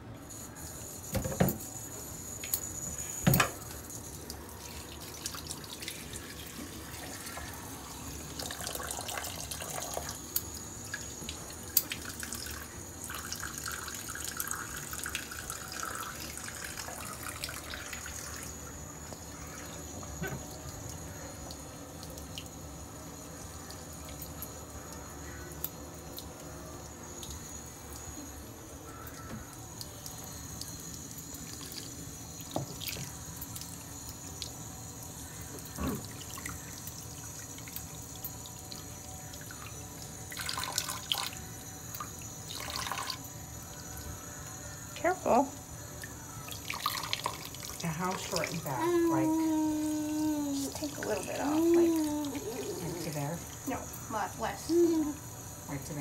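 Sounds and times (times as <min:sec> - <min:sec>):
faucet running: 0:00.0 - 0:56.0
water splashing and dripping: 0:03.3 - 0:44.1, 0:45.0 - 0:56.0.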